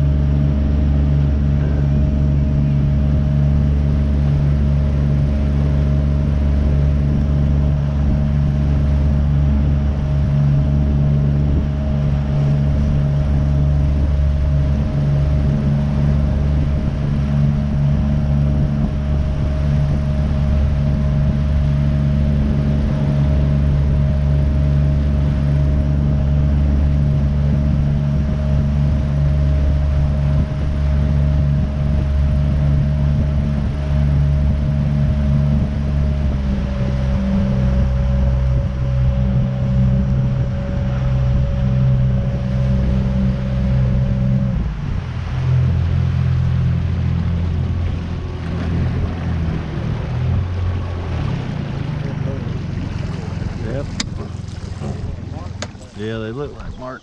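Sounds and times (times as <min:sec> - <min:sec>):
hull and water noise: 0:00.0 - 0:57.0
outboard motor running: 0:00.0 - 0:57.0.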